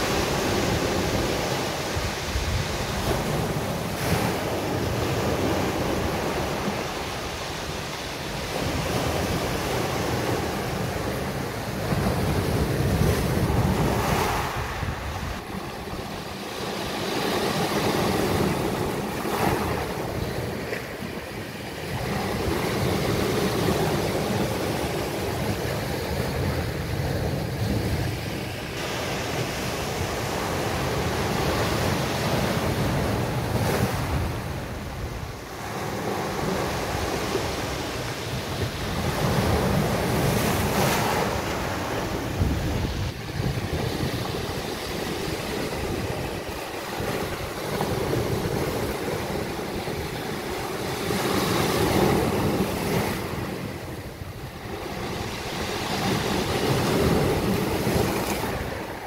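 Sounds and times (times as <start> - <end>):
sea waves breaking on beach: 0.0 - 59.0
wind rumbling on microphone: 0.0 - 59.0.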